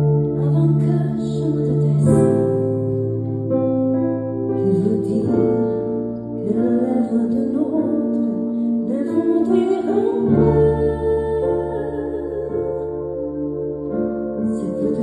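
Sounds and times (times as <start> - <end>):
woman singing into microphone: 0.2 - 2.8, 4.6 - 13.4, 14.4 - 15.0.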